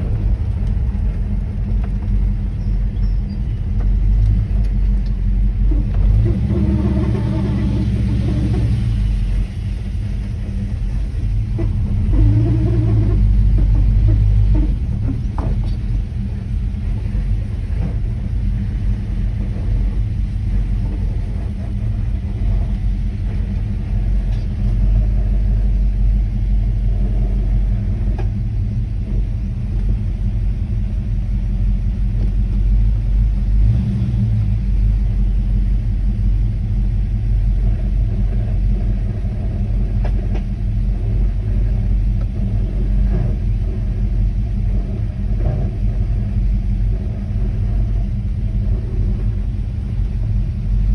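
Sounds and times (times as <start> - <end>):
car engine rumbling: 0.0 - 50.9.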